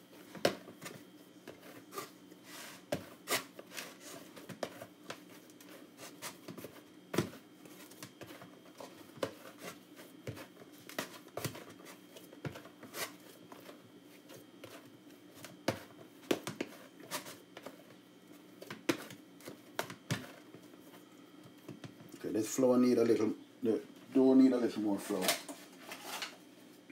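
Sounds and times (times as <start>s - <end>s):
hands kneading dough: 0.0s - 22.6s.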